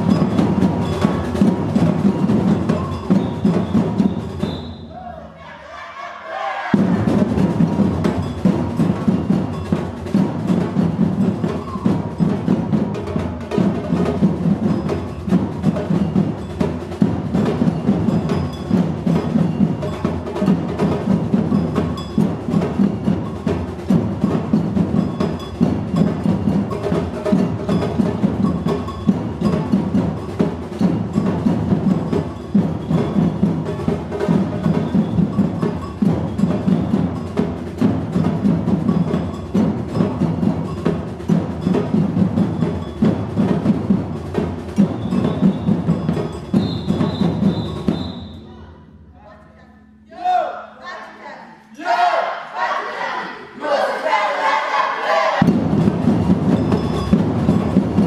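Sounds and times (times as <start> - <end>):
percussion ensemble playing: 0.0 - 58.0.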